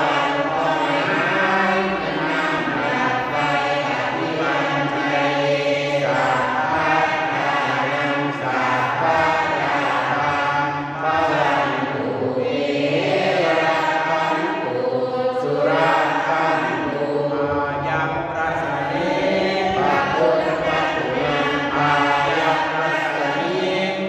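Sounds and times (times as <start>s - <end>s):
congregation chanting prayers: 0.0s - 24.0s
man chanting into a microphone: 0.0s - 24.0s.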